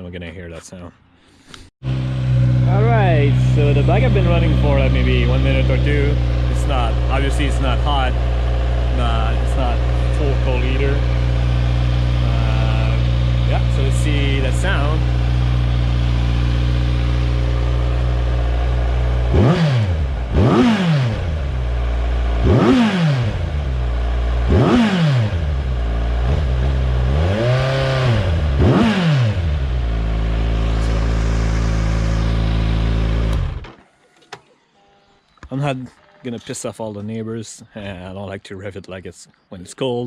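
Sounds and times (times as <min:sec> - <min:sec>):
motorcycle engine idling and revving: 0:01.8 - 0:33.9.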